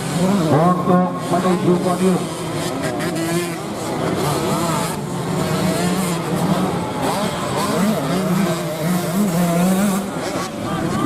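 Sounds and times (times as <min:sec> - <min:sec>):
dirt bike engines running: 0:00.0 - 0:11.0.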